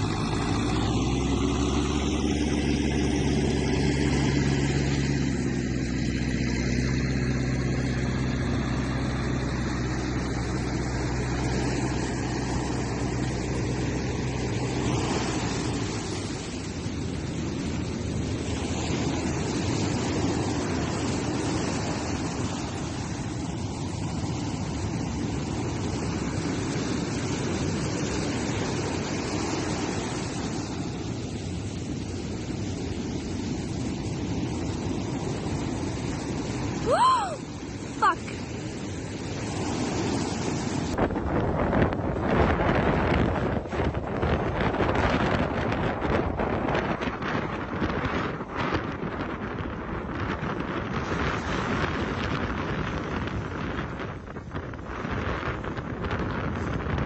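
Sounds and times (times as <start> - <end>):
engine running steadily: 0.0 - 57.0
rushing water: 0.0 - 57.0
wind noise on microphone: 0.0 - 57.0.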